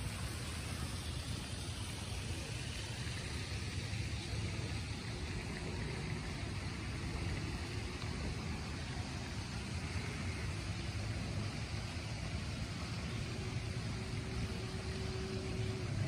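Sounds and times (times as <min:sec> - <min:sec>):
rain falling on wet ground: 0:00.0 - 0:16.0.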